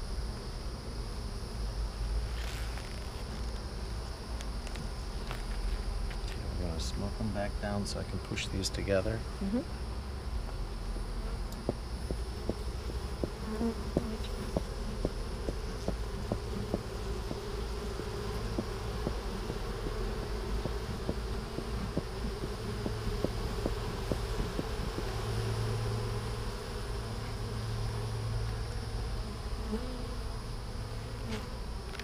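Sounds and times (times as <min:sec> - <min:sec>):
bees buzzing: 0:00.8 - 0:32.0.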